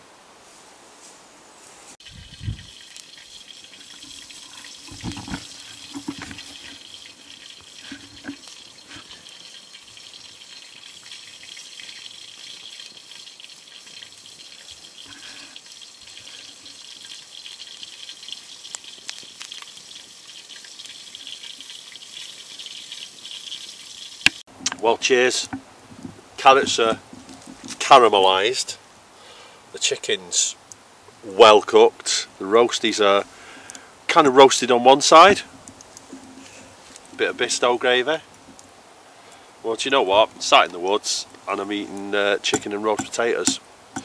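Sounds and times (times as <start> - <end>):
campfire hiss: 0.0 - 44.0
campfire crackling and popping: 2.3 - 28.0, 33.1 - 44.0.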